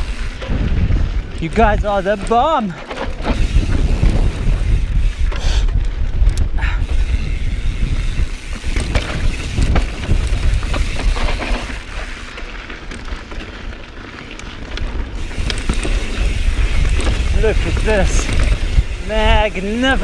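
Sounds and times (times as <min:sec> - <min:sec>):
wind buffeting microphone: 0:00.0 - 0:13.2, 0:14.6 - 0:20.0
mountain bike rattling on rocks: 0:00.0 - 0:20.0.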